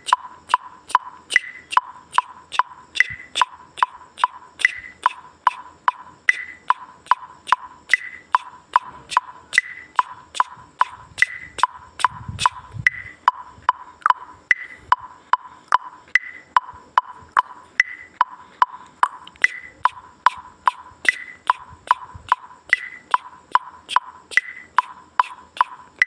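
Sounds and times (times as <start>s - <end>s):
wood-block ticks in steady beat: 0.0s - 26.0s.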